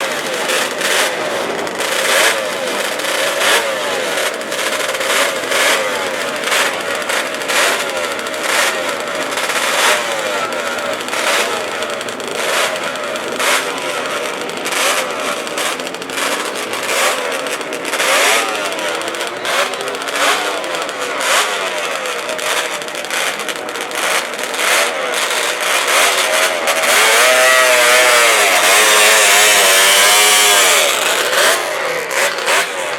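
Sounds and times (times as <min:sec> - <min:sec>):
racing engine revving: 0:00.0 - 0:32.9.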